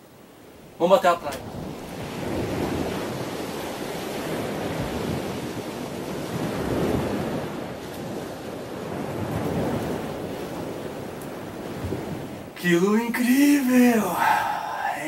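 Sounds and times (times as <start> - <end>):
ocean waves washing: 1.4 - 15.0.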